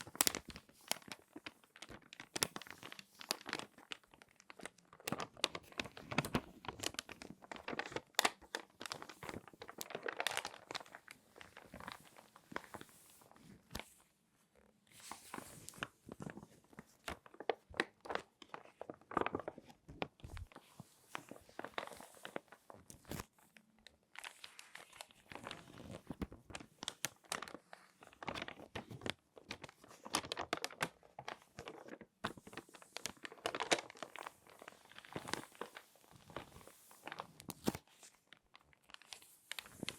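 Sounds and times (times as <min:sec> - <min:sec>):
magazine pages crinkling: 0:00.0 - 0:13.9, 0:14.9 - 0:39.9.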